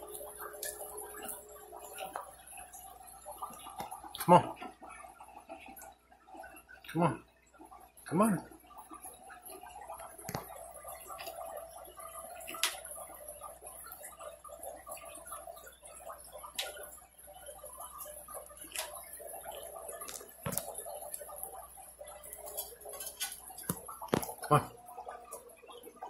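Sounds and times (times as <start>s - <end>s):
steady equipment hum: 0.0s - 26.0s.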